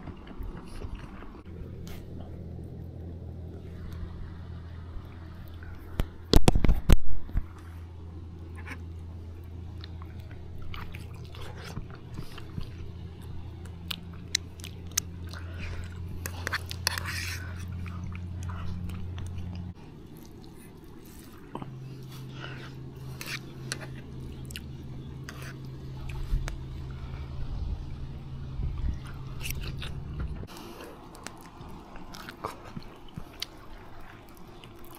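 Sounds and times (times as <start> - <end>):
chewing and biting food: 0.0 - 34.9
low hum: 0.0 - 34.9.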